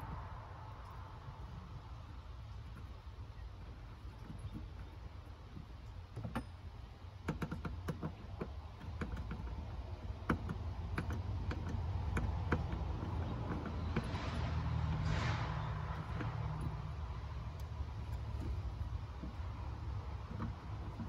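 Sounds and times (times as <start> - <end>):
small metallic clicks and taps: 0.0 - 21.0.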